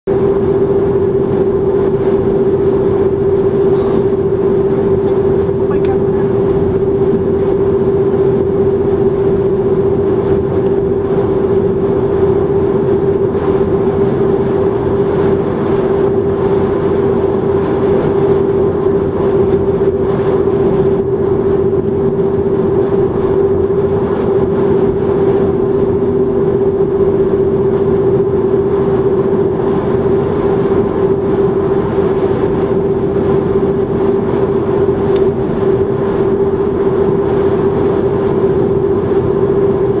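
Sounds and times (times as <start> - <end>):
constant droning hum: 0.0 - 40.0
road and tyre noise: 0.0 - 40.0.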